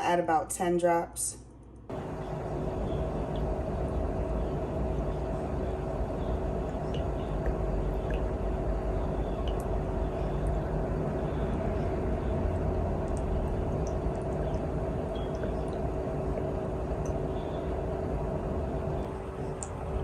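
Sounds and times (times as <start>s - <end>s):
machine hum with low rumble: 0.0s - 20.0s.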